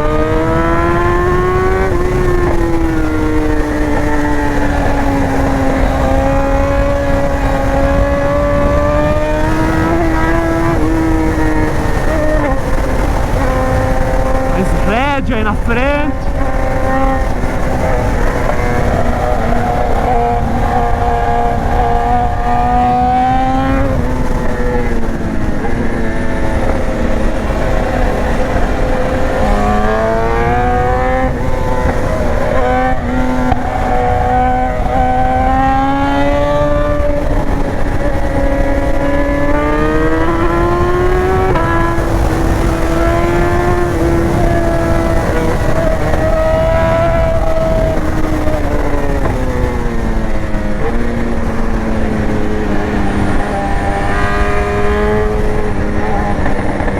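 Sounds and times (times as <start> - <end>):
motorcycle engine revving: 0.0 - 14.6, 15.5 - 56.9
wind noise: 0.0 - 56.9.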